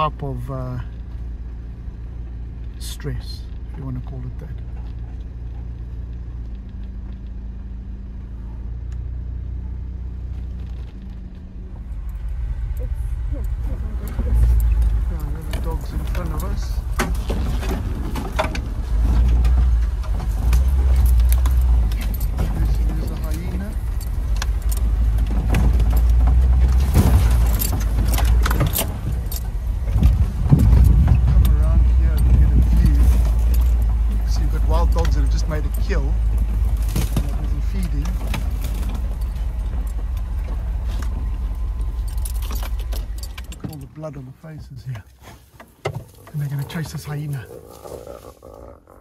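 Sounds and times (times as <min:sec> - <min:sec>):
car engine humming: 0:00.0 - 0:49.0
vehicle clicks and rattles: 0:00.0 - 0:49.0
vehicle rumbling: 0:00.0 - 0:49.0.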